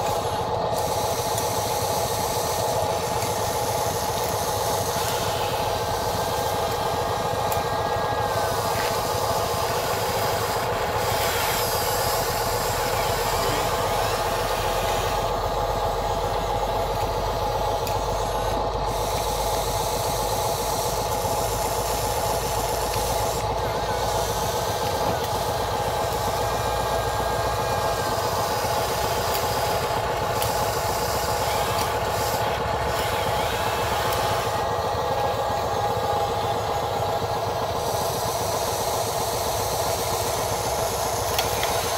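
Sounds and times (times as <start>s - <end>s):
electric motors whining: 0.0s - 41.9s.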